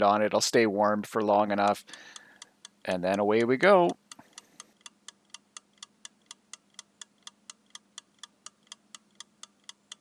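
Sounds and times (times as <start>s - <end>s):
faint steady hum: 0.0s - 10.0s
timer ticking: 1.0s - 10.0s.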